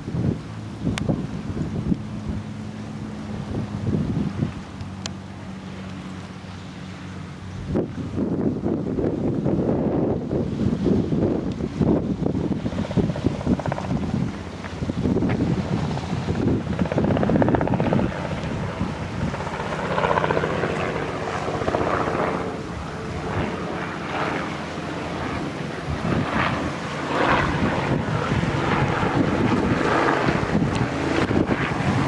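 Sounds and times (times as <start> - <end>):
engine drone: 0.0 - 32.0
wind buffeting microphone: 0.0 - 32.0.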